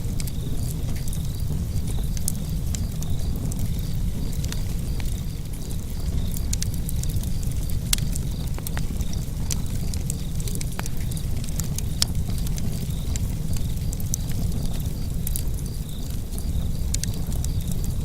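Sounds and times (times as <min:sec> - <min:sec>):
fire crackling and popping: 0:00.0 - 0:18.0
fire rumbling in fireplace: 0:00.0 - 0:18.0.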